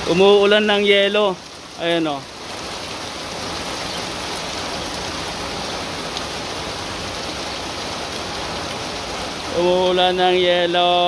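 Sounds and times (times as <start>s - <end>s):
hail and rain falling: 0.0s - 11.0s.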